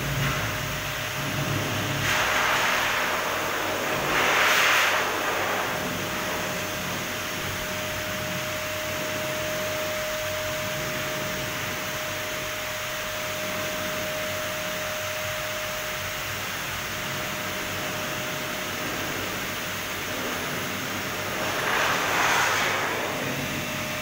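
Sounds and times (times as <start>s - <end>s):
dog grooming blower dryer whining: 0.0s - 24.0s.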